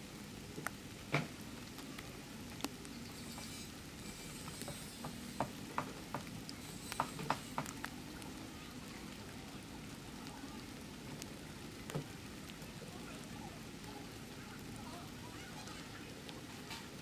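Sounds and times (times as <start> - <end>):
rain drips and taps: 0.0 - 17.0
steady rain hiss: 0.0 - 17.0.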